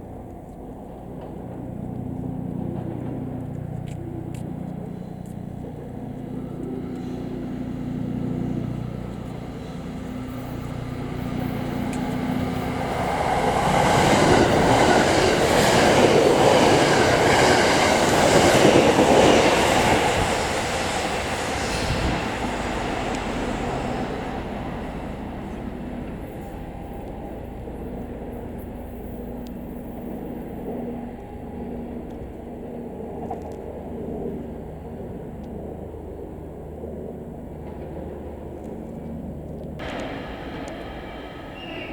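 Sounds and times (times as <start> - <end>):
electric train passing: 0.0 - 41.9.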